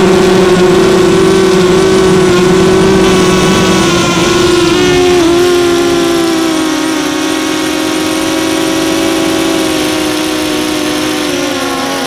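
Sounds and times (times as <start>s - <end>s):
drone motors humming: 0.0s - 12.0s.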